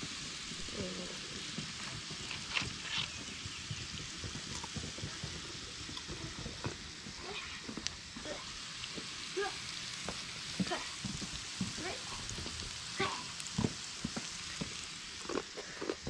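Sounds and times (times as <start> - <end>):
food sizzling with pops: 0.0 - 16.0.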